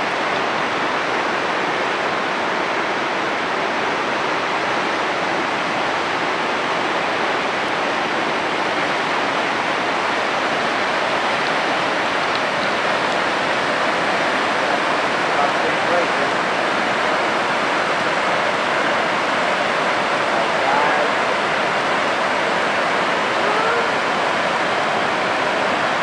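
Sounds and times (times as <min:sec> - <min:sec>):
river rapid rushing: 0:00.0 - 0:26.0.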